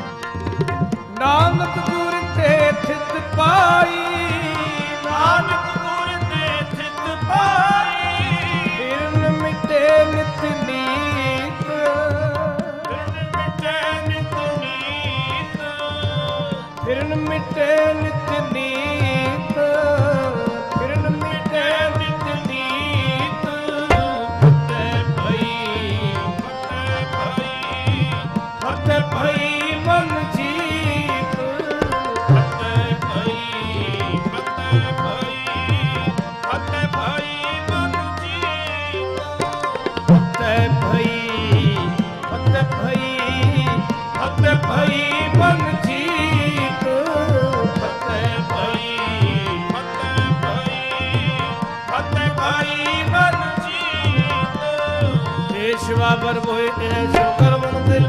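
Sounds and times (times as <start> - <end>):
harmonium chords: 0.0 - 58.0
tabla rhythm: 0.0 - 58.0.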